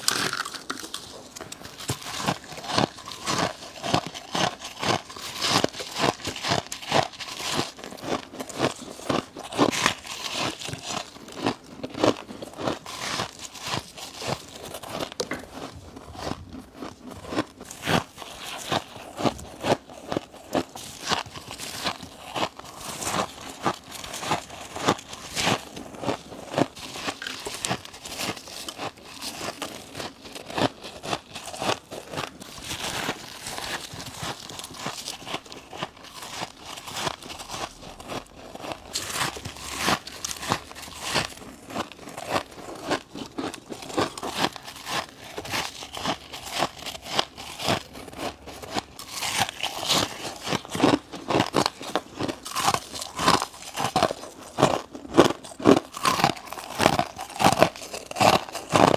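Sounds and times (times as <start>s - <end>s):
biting crunchy frost: 0.0s - 58.9s.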